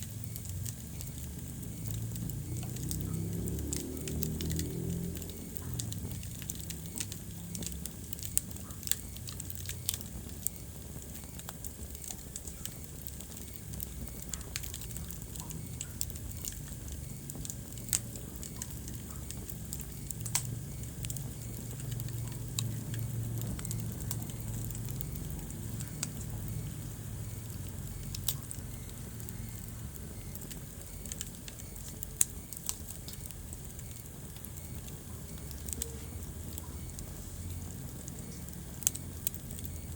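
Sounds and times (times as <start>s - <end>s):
fire crackling and popping: 0.0s - 39.9s
wood fire burning: 0.0s - 39.9s.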